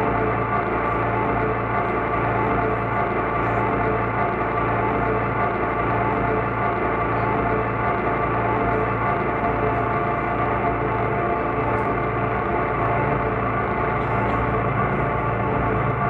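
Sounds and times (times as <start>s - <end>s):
ambient electronic drone: 0.0s - 16.0s.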